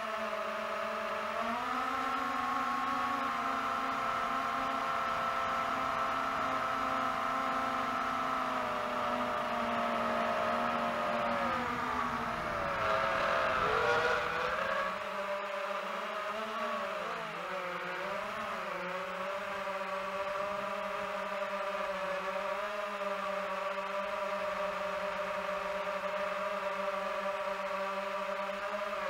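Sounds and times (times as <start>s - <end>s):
drone propellers whining: 0.1s - 29.0s.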